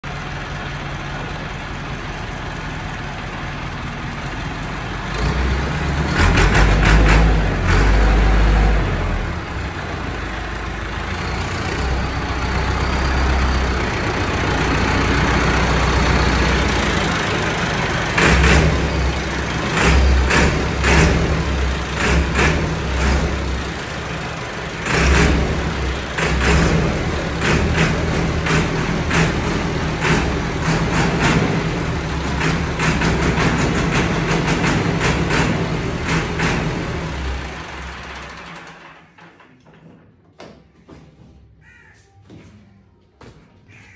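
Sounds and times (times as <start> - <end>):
tractor diesel engine running: 0.0 - 39.6.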